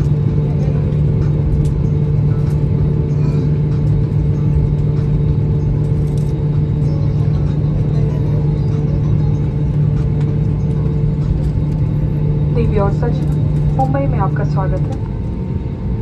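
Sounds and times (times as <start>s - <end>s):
jet engines humming: 0.0s - 16.0s
rolling aircraft rumble: 0.0s - 16.0s.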